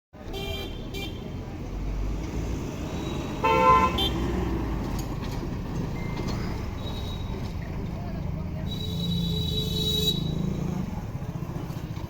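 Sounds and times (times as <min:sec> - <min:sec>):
traffic rumble: 0:00.2 - 0:12.0.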